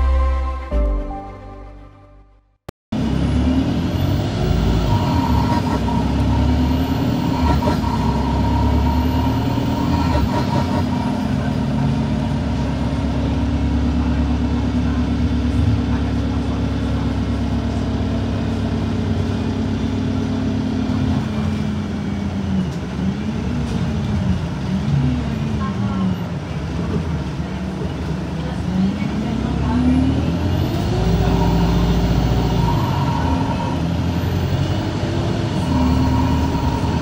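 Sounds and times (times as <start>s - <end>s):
bus diesel engine running: 2.9s - 37.0s.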